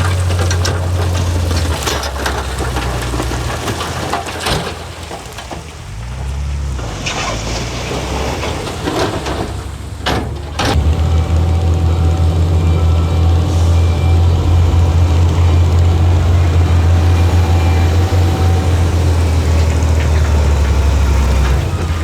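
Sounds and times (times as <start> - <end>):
diesel machinery engine running: 0.0 - 22.0.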